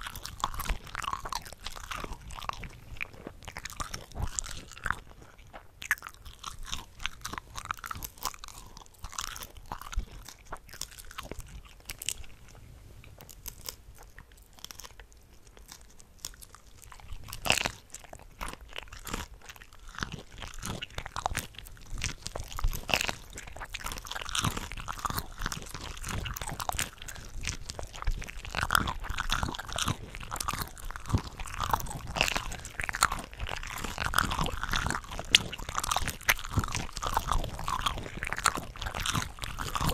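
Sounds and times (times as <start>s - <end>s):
chewing shrimp: 0.0s - 39.9s
wet mouth sounds: 0.0s - 39.9s.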